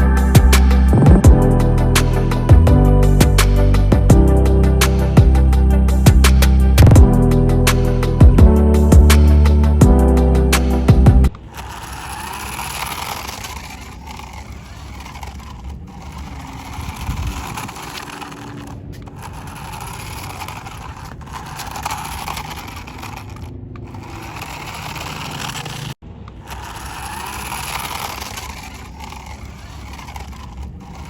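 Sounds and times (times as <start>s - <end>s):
toy car motor whirring: 0.0s - 31.0s.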